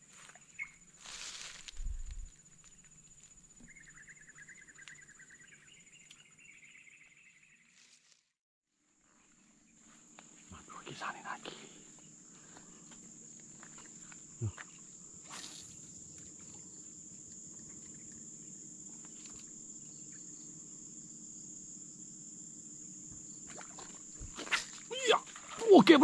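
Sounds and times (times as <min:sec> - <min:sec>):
insects trilling: 0:00.0 - 0:08.0, 0:08.9 - 0:26.0.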